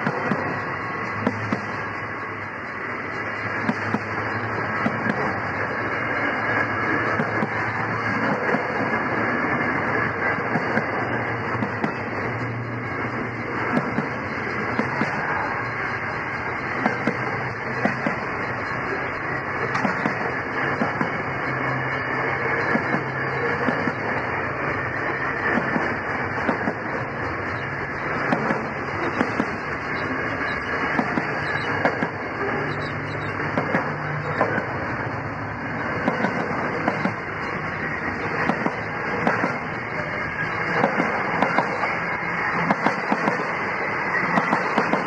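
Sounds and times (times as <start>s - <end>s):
wheels rumbling on rail: 0.0s - 45.0s.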